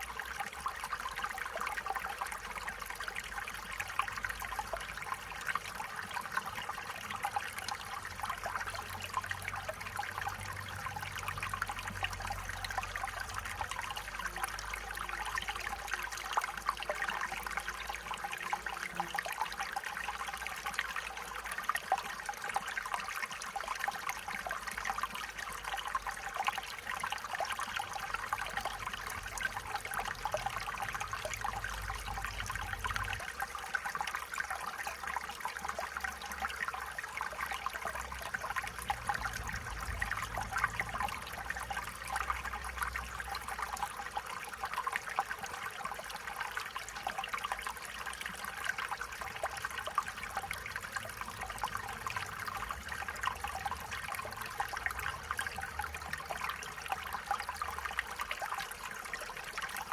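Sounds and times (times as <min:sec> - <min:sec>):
stream water over stones: 0:00.0 - 0:59.9.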